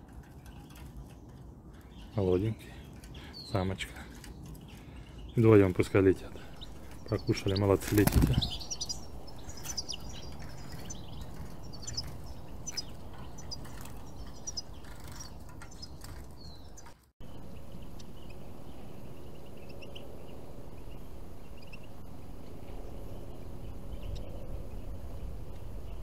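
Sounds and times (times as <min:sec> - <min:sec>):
outdoor background noise: 0:00.0 - 0:26.0
small songbirds chirping: 0:00.0 - 0:26.0.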